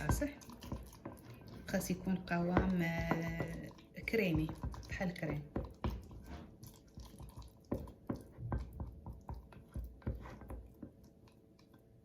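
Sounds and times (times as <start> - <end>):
spoon stirring thick paste: 0.0 - 12.0.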